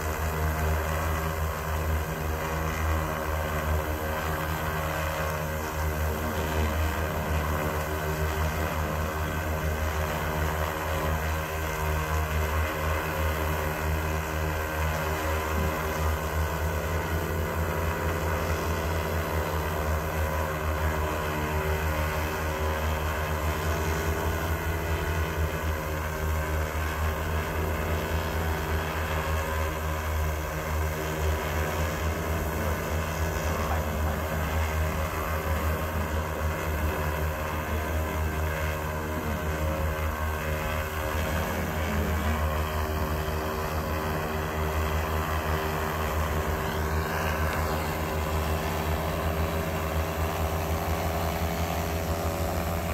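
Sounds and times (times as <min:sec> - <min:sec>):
drone propellers hovering: 0:00.0 - 0:52.9.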